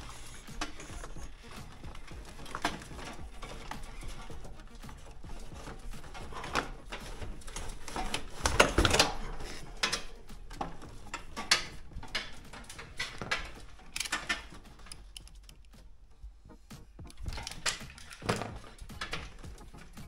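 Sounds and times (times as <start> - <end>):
handling electrical wiring and tools: 0.0 - 20.0.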